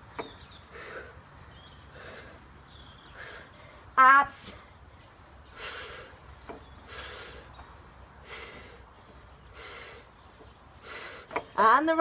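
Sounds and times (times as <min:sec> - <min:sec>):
woman breathing heavily: 0:00.6 - 0:03.9, 0:04.6 - 0:11.5.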